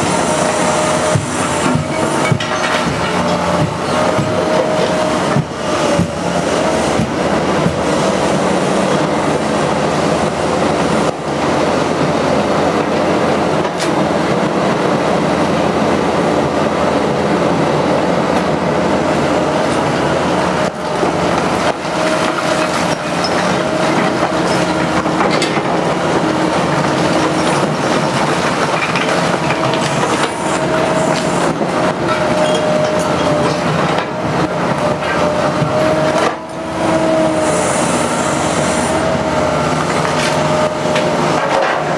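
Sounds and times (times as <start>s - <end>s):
excavator engine and hydraulics: 0.0s - 41.9s.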